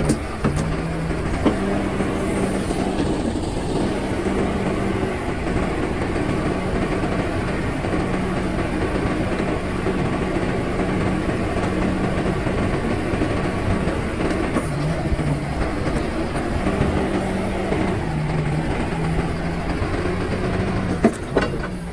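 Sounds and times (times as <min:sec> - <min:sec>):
excavator engine drone: 0:00.0 - 0:21.9
rattling and clanking: 0:00.0 - 0:21.9.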